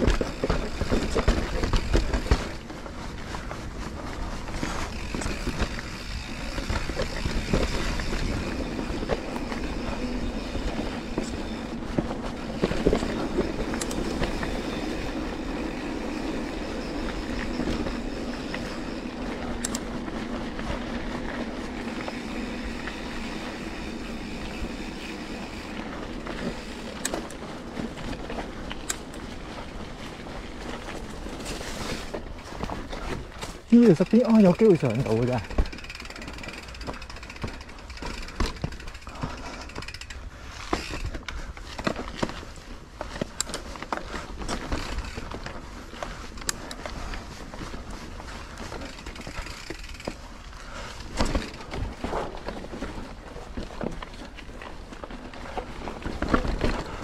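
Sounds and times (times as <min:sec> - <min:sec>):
bike tyre rumble and rattling: 0:00.0 - 0:57.0.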